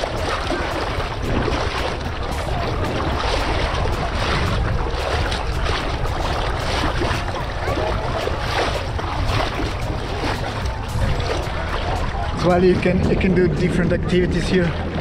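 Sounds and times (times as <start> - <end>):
water lapping and sloshing: 0.0 - 15.0
water splashes crackling: 0.0 - 15.0
wind rumble on microphone: 0.0 - 15.0.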